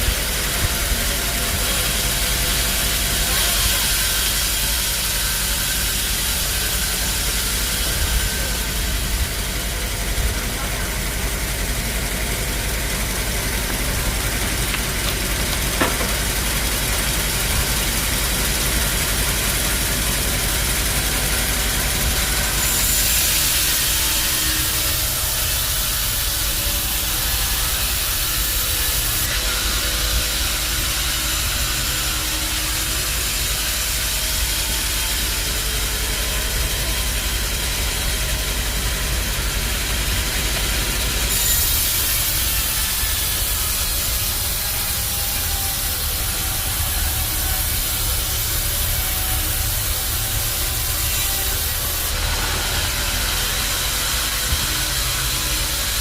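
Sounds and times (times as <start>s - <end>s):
low machinery rumble: 0.0s - 56.0s
sawmill machinery hiss: 0.0s - 56.0s.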